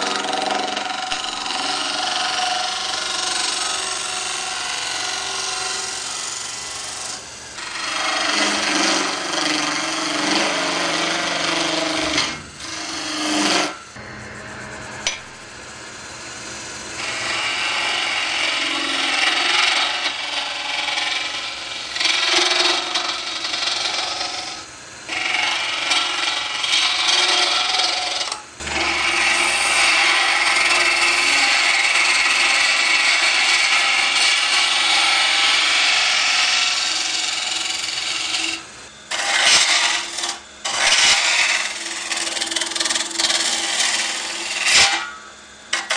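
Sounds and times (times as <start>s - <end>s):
lathe gouge scraping hiss: 0.0s - 14.0s, 14.9s - 45.9s.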